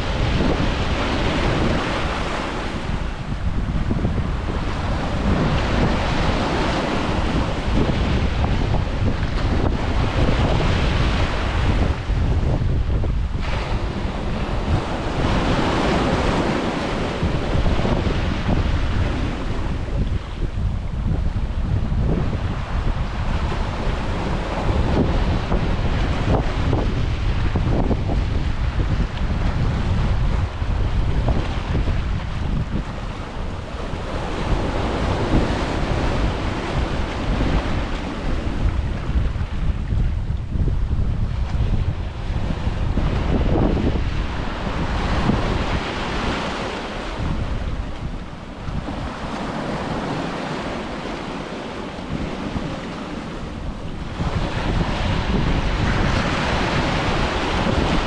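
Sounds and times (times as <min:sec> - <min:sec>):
ocean surf washing onto beach: 0:00.0 - 0:58.0
wind buffeting microphone: 0:00.0 - 0:58.0.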